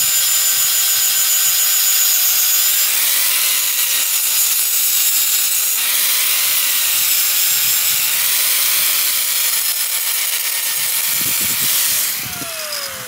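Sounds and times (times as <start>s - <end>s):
angle grinder grinding metal: 0.0s - 13.0s.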